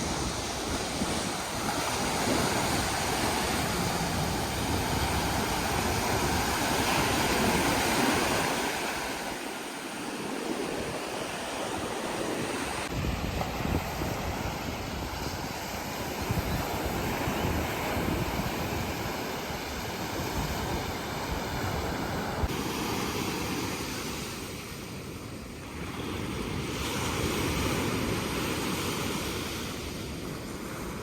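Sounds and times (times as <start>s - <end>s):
surf breaking on sandy beach: 0.0s - 25.1s
wind buffeting microphone: 0.0s - 25.1s.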